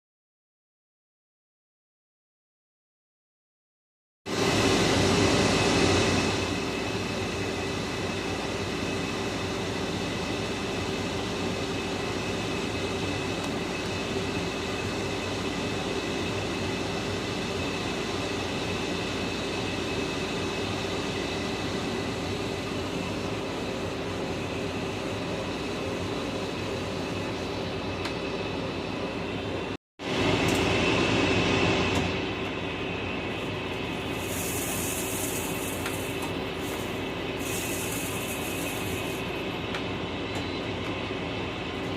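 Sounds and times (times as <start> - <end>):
lathe running with high whine: 4.3 - 41.9.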